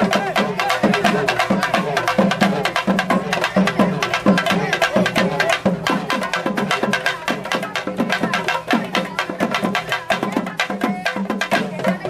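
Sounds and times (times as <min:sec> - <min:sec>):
loud festival drumming: 0:00.0 - 0:12.0.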